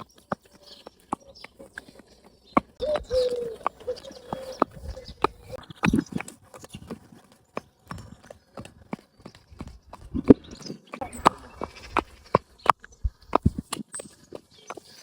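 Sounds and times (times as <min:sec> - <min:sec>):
pony hooves clip-clopping: 0:00.0 - 0:15.0.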